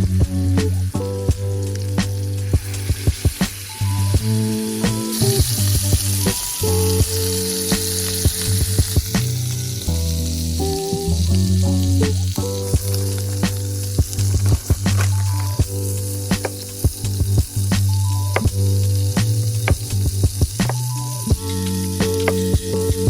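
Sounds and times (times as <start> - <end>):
background music with bass: 0.0 - 23.0
food sizzling in a pan: 0.9 - 23.0.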